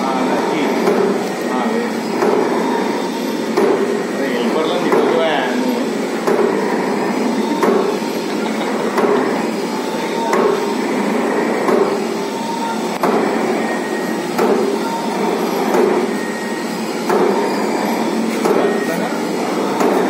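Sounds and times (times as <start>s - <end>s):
paper machine running: 0.0s - 20.0s.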